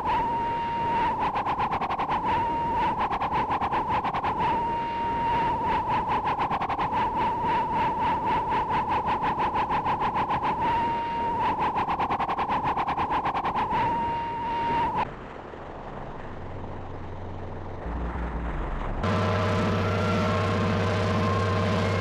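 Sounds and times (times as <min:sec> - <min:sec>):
electronic warbling alarm: 0:00.0 - 0:15.1, 0:19.0 - 0:22.0
siren-like steady tones: 0:00.0 - 0:15.1, 0:19.0 - 0:22.0
low hum: 0:00.0 - 0:22.0.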